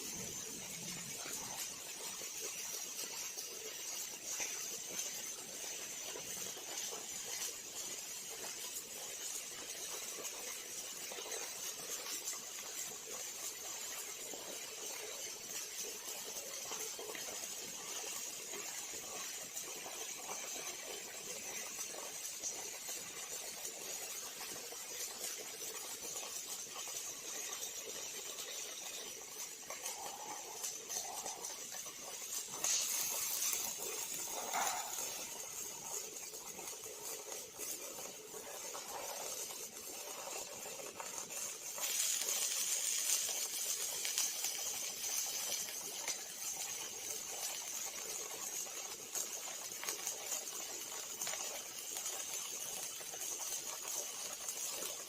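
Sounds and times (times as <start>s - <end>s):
welding arc crackling hiss: 0.0s - 55.0s.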